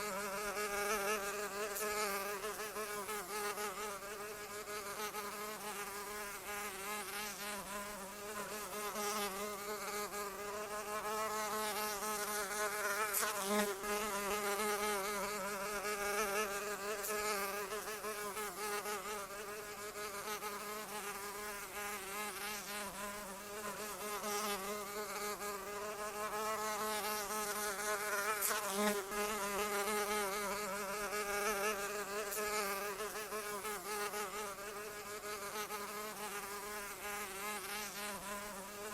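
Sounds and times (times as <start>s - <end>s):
insect wings buzzing: 0.0s - 38.9s.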